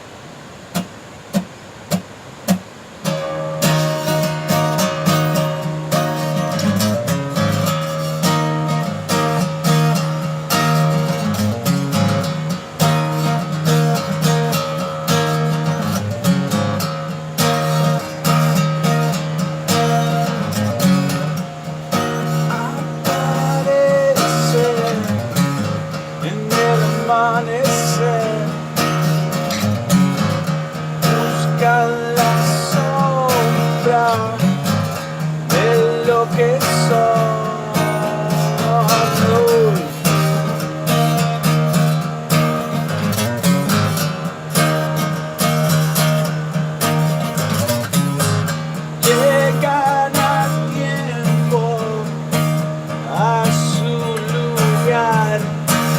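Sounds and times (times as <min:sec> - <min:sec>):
acoustic guitar music: 0:00.0 - 0:55.9.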